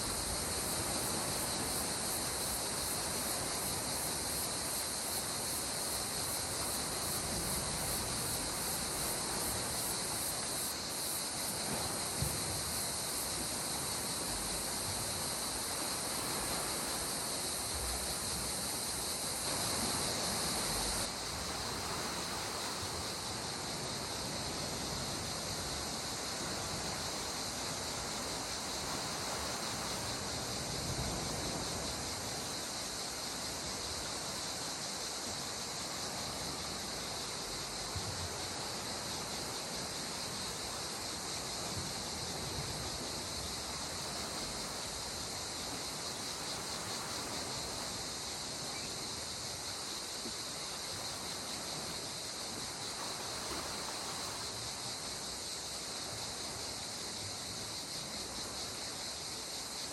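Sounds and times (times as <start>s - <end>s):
sea water washing on shore: 0.0s - 57.7s
high-pitched insect chorus: 0.0s - 59.9s.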